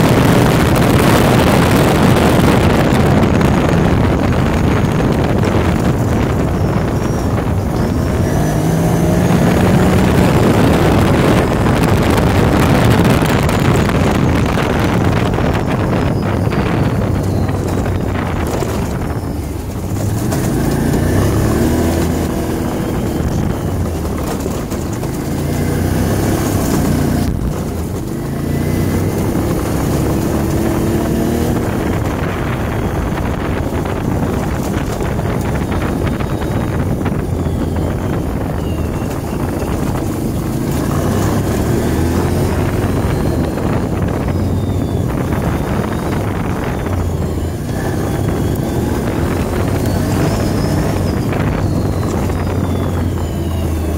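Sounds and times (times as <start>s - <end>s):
atv engine revving: 0.0s - 53.9s
wind on microphone: 0.0s - 53.9s.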